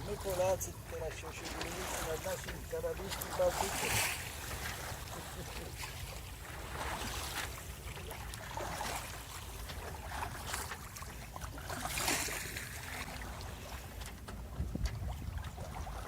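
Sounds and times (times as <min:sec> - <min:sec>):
water splashing against hull: 0:00.0 - 0:16.0.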